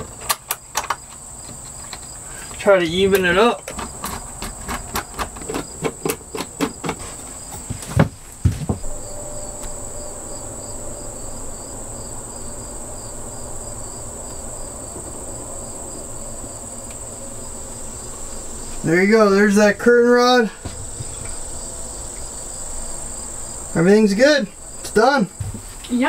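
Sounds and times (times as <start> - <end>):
insect drone with chirps: 0.0 - 26.0.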